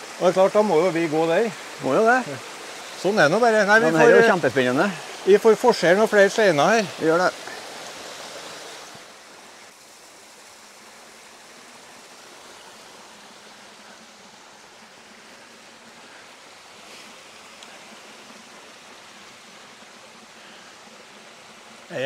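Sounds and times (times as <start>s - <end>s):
brook running over stones: 0.0s - 22.0s.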